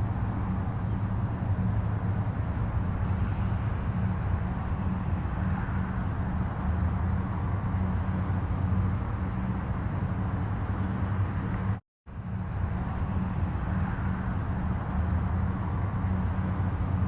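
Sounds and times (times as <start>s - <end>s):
distant highway traffic rumble: 0.0s - 17.0s.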